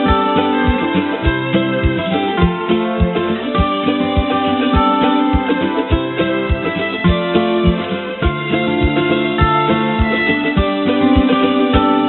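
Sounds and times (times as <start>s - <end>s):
background music with steady beat: 0.0s - 12.0s
held pitched notes: 0.0s - 12.0s.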